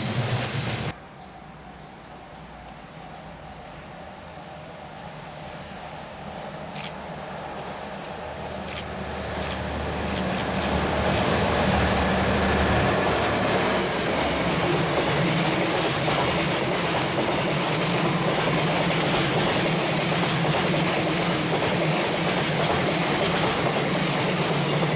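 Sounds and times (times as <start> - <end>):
freight train wheels on rails: 0.0 - 1.1, 2.1 - 24.9.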